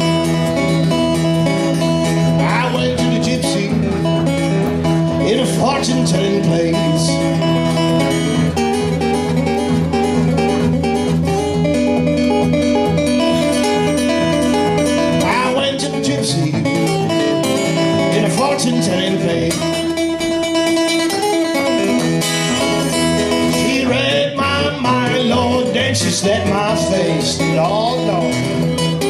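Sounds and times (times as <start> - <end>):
acoustic guitar blues: 0.0 - 29.0.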